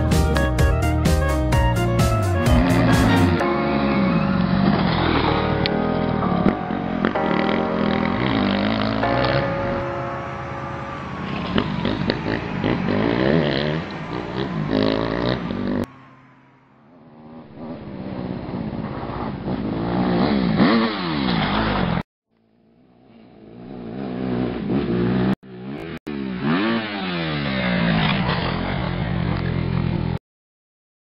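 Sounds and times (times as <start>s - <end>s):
motocross bike engine revving: 2.3s - 9.4s, 11.1s - 22.0s, 23.0s - 30.0s.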